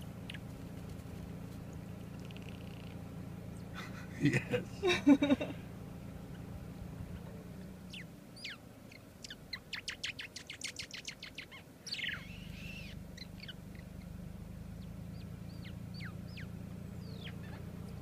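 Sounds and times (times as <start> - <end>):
small bird calling: 0.0 - 4.0, 6.2 - 18.0
low steady hum: 0.0 - 18.0.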